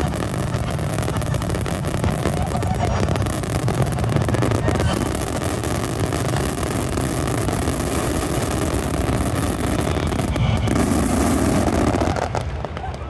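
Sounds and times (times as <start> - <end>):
fireworks bursting in deep rumble: 0.0 - 13.0.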